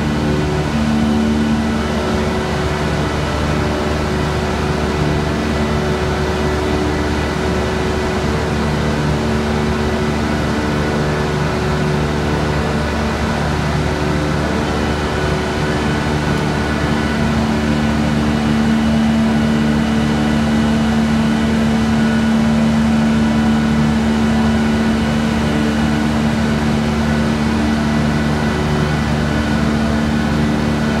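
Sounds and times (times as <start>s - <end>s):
machinery noise: 0.0s - 31.0s.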